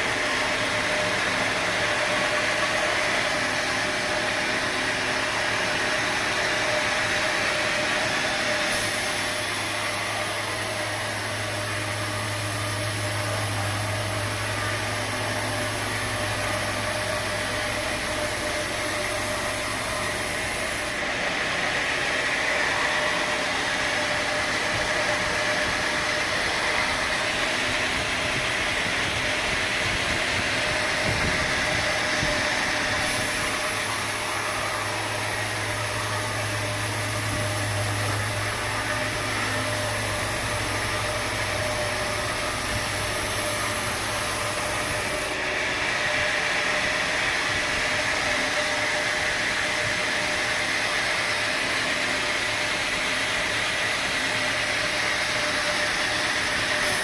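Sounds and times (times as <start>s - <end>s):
sawmill machinery whine and hiss: 0.0s - 57.0s.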